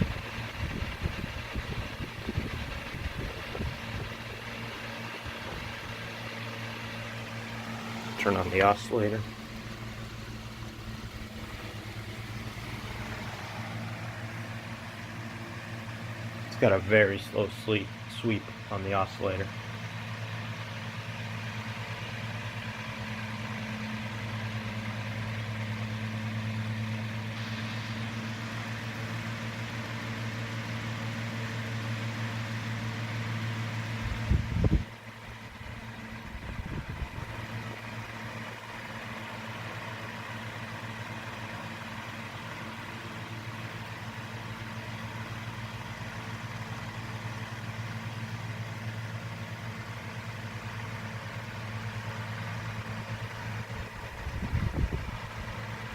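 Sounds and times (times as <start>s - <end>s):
table fan running: 0.0s - 19.6s, 21.5s - 48.7s, 50.4s - 55.9s.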